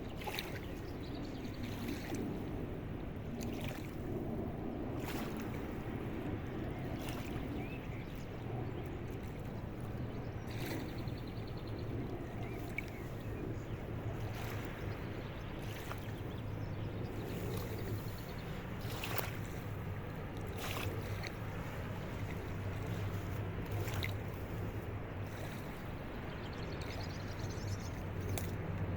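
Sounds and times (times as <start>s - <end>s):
water noise: 0.0s - 28.9s
boat engine droning: 3.5s - 28.9s.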